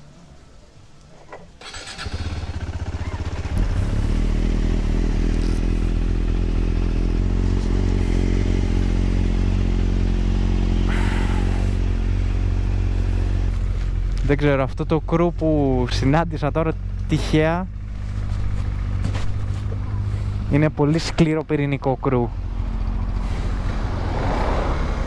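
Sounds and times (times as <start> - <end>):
motorcycle engine running: 1.7 - 25.0.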